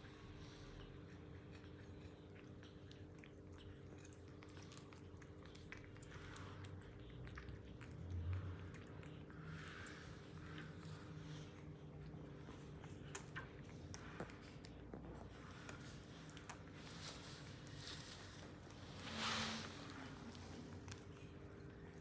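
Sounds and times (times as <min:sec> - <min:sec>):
faint crunchy chewing: 0:00.0 - 0:22.0
steady low hum: 0:00.0 - 0:22.0.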